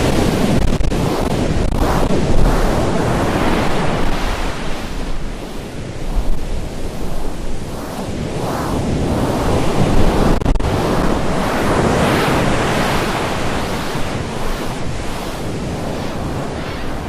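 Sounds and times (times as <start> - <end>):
loud rushing noise: 0.0 - 16.9.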